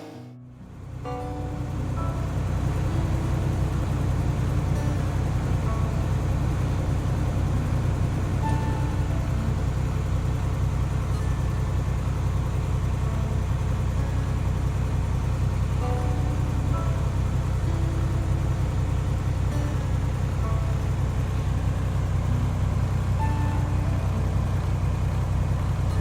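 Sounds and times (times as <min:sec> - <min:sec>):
diesel truck engine idling: 0:00.6 - 0:26.0.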